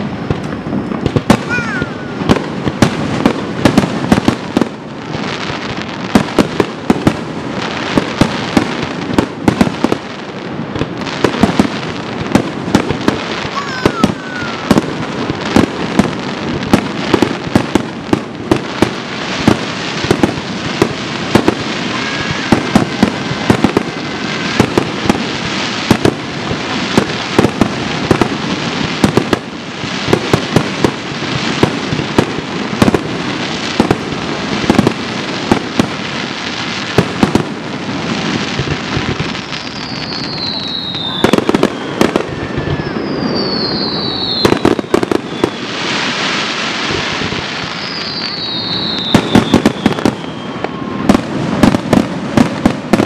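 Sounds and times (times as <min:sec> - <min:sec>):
firework crackle: 0:00.0 - 0:53.0.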